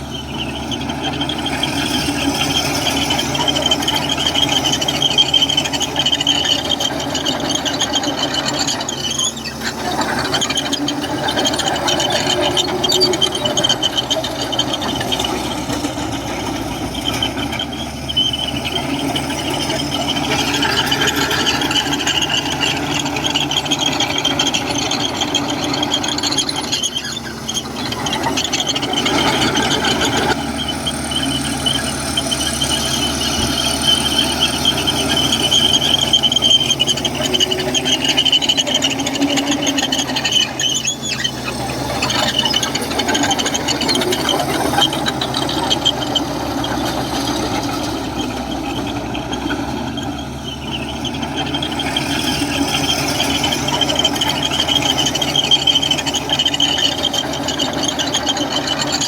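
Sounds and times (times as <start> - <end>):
bulldozer tracks squealing and clanking: 0.0 - 59.0.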